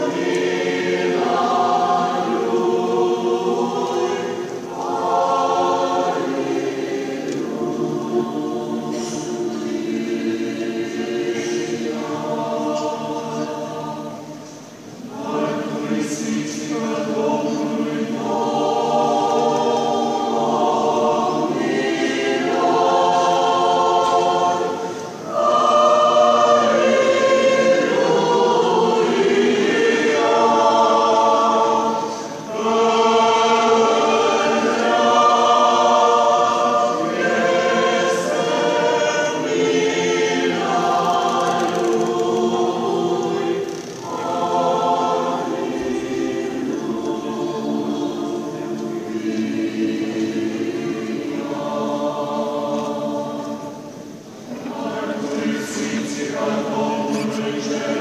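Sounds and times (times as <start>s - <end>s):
choir singing a cappella: 0.0s - 58.0s.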